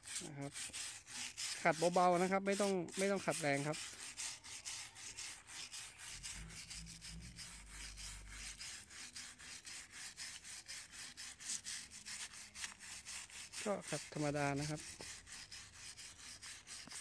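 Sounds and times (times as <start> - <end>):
stiff brush scrubbing bark: 0.0 - 17.0.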